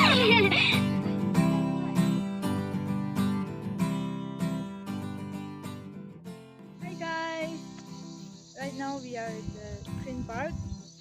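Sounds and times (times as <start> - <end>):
strummed acoustic guitar: 0.0 - 10.1.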